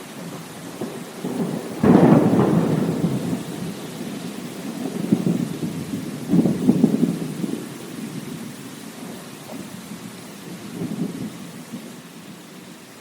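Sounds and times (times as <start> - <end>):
thunder rumbling: 0.0 - 12.4
steady rainfall: 0.0 - 13.0.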